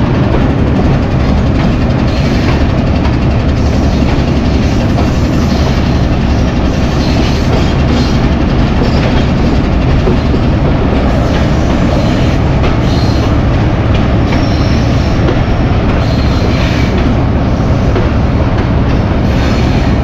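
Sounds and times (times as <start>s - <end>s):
wheels clicking over track: 0.0s - 17.3s
diesel locomotive running: 0.0s - 20.0s.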